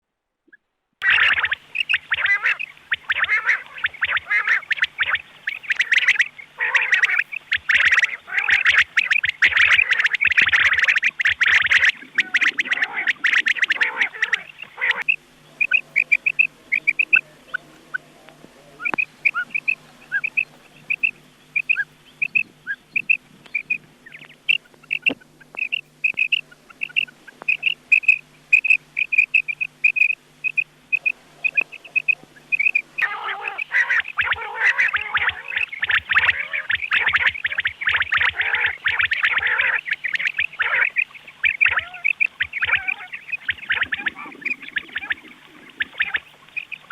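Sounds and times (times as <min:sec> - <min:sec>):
low hum: 0:01.0 - 0:46.9
quail calls: 0:01.0 - 0:46.9.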